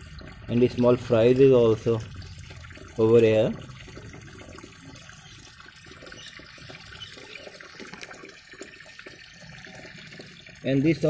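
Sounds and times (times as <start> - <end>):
small ticks and splashes: 0.0 - 11.0
water trickling in pond: 0.0 - 11.0.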